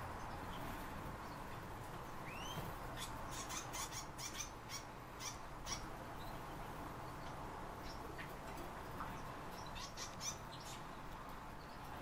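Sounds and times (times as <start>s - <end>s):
cage birds chirping: 0.0s - 12.0s.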